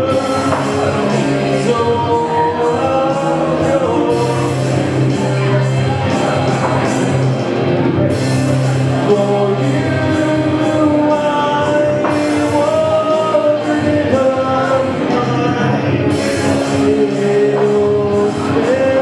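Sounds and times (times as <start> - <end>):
instrumental rock backing: 0.0 - 19.0
live rock singing: 0.0 - 19.0.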